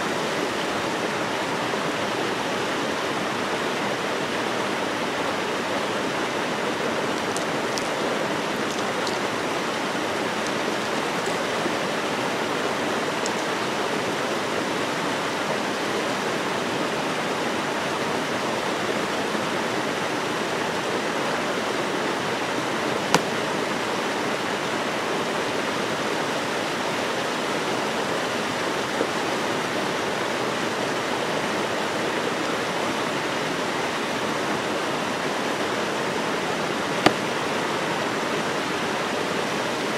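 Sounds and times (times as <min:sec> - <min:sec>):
stream cascading over rocks: 0:00.0 - 0:39.9.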